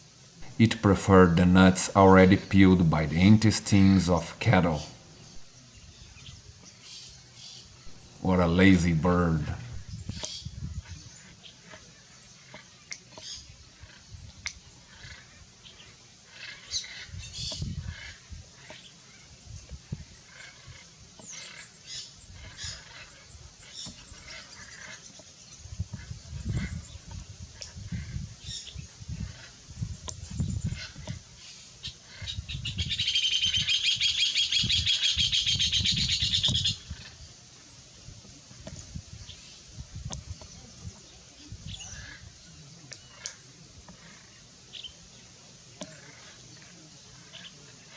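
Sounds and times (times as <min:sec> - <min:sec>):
birds chirping and calling: 0:00.4 - 0:37.9, 0:38.6 - 0:47.9.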